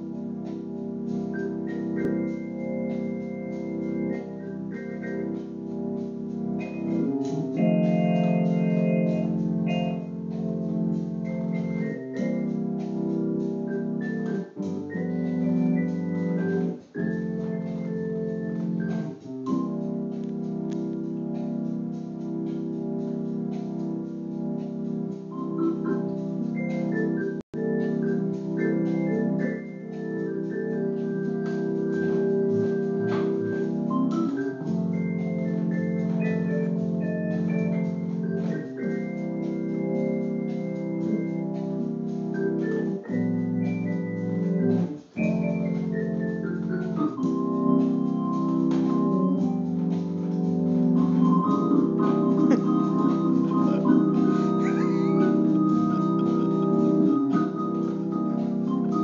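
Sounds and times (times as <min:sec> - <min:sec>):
organ playing chords and melody: 0:00.0 - 0:59.0.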